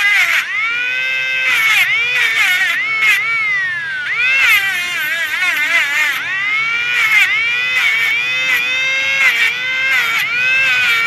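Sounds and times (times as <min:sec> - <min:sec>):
angle grinder whining: 0:00.0 - 0:11.0
scratchy grinding hiss: 0:00.0 - 0:11.0.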